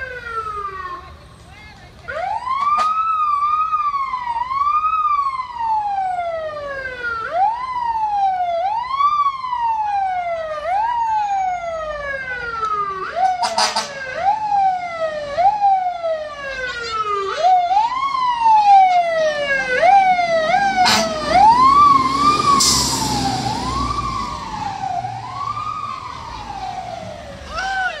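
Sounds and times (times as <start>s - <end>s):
fire engine siren wailing: 0.0s - 28.0s
truck engine rumbling: 0.0s - 28.0s.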